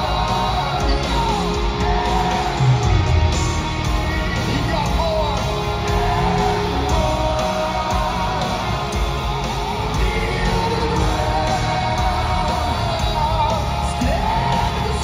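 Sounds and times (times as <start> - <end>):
distorted guitars: 0.0 - 15.0
drums: 0.0 - 15.0.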